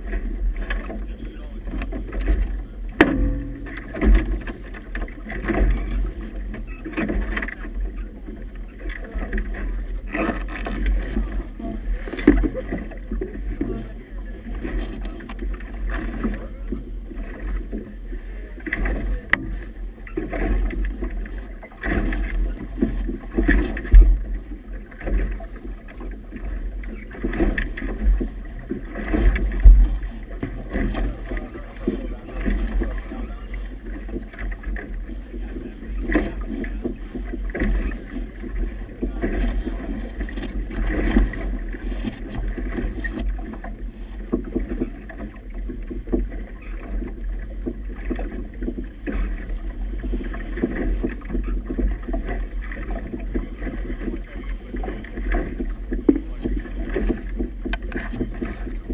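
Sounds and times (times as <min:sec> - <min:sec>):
water slapping against boat hull: 0:00.0 - 0:58.9.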